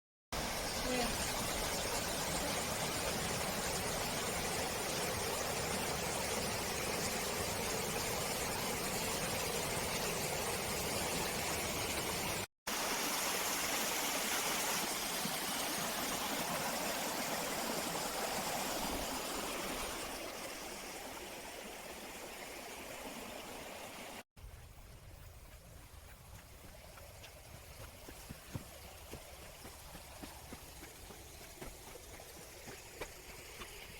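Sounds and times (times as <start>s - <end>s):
stream water flowing: 0.4s - 24.2s, 24.9s - 33.9s.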